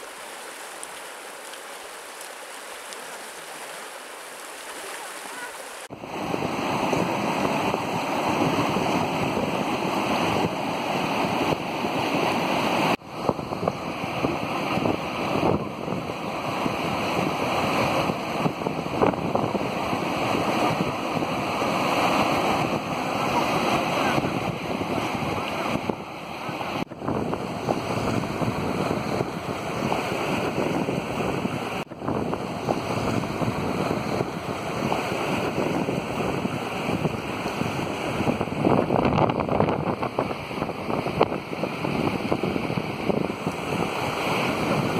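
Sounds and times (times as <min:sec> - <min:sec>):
fast river rushing: 0:00.0 - 0:44.9.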